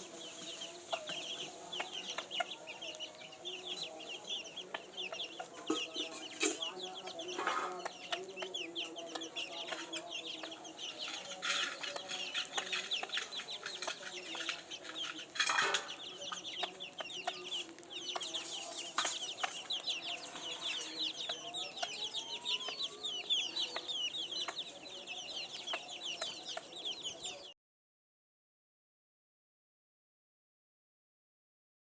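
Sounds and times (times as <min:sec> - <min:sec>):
chicks peeping: 0:00.0 - 0:27.5.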